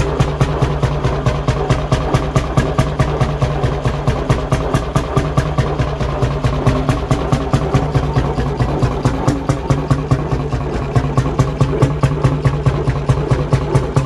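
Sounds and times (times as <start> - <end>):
knocking engine running: 0.0 - 14.0.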